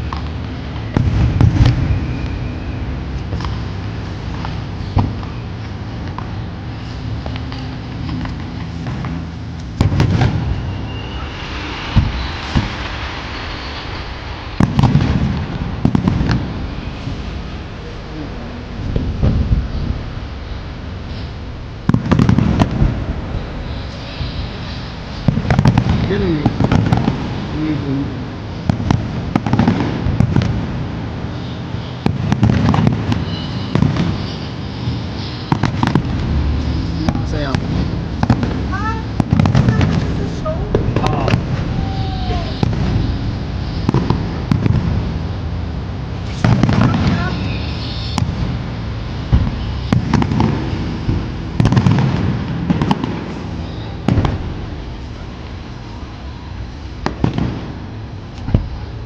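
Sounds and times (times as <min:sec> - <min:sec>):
continuous low rumble: 0:00.0 - 0:59.0
fireworks bursting with sharp bangs: 0:00.0 - 0:59.0.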